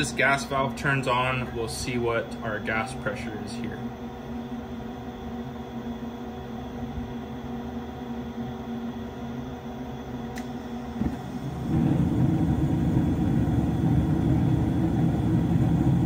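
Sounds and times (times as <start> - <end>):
furnace burners rumbling: 0.0 - 16.0
furnace inducer motor hum: 0.0 - 16.0.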